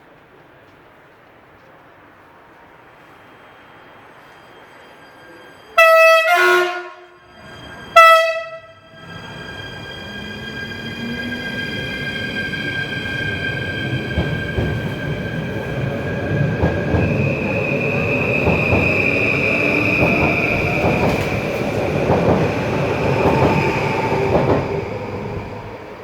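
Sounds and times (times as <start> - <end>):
wheels rumbling on rail: 0.0 - 26.0
electric train whine: 0.1 - 26.0.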